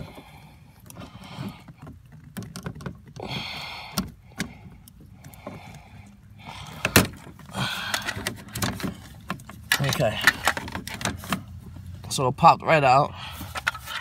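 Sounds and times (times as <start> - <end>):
car door handle clicking and scraping: 0.0 - 3.3, 3.9 - 11.8.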